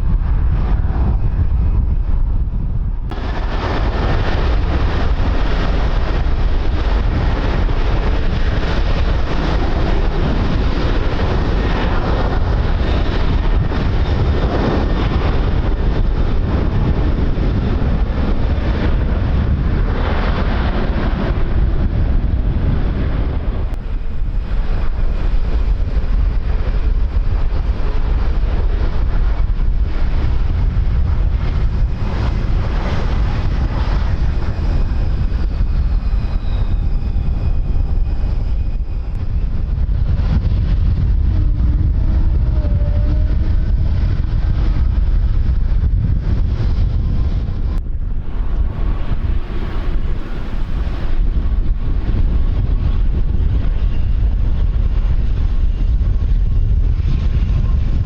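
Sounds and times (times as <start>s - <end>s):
strong wind buffeting the microphone: 0.0s - 58.0s.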